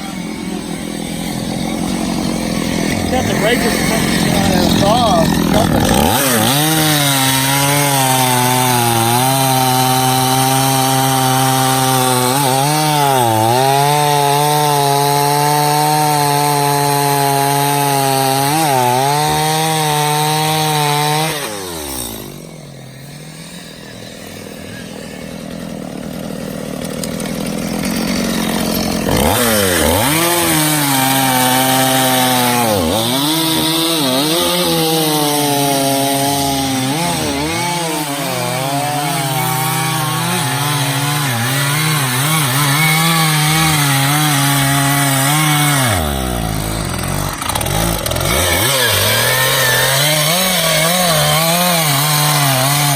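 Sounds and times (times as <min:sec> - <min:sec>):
chainsaw cutting logs: 0:00.0 - 0:52.9.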